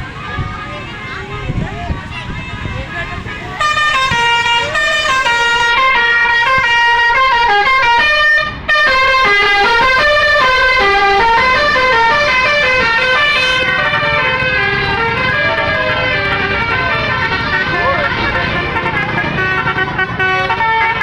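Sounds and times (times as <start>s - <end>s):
multi-tone bus horn tune: 0.0s - 21.0s.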